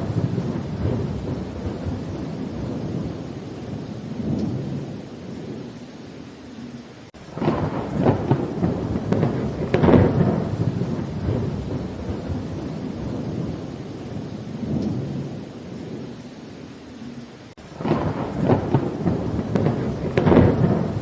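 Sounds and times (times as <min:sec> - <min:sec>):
steady rain: 0:00.0 - 0:21.0
thunder crackling and rumbling: 0:00.0 - 0:21.0.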